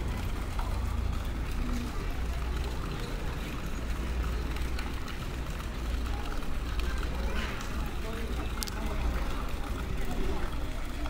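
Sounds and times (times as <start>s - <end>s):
faint indistinct voices: 0.0s - 11.0s.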